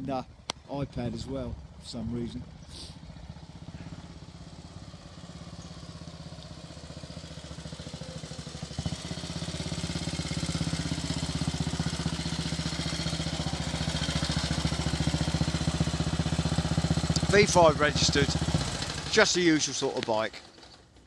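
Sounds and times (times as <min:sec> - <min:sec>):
motorcycle engine running: 0:00.1 - 0:21.0.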